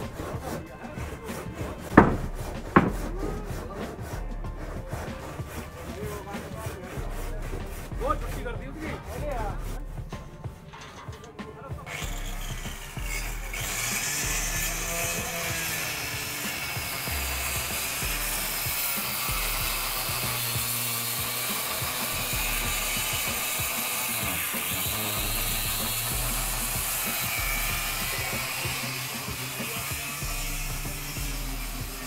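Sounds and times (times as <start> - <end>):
rasping power tool: 0.0 - 10.1, 11.9 - 32.0
background music with bass line: 0.0 - 32.0.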